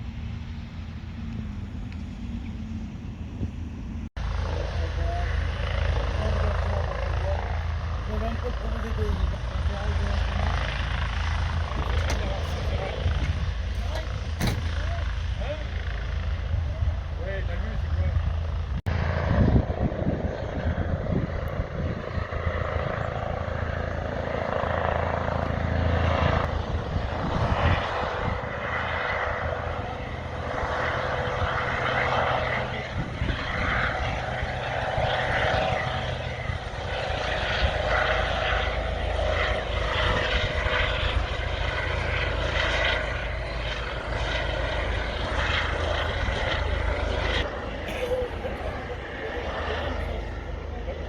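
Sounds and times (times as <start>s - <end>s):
aircraft engine drone: 0.0s - 51.0s.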